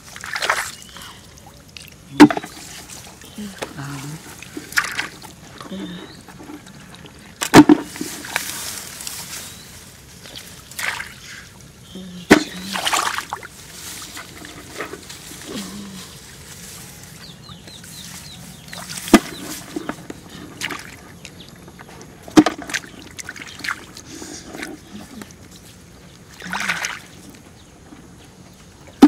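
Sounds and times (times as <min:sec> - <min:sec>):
shallow water splashing: 0:00.0 - 0:29.0.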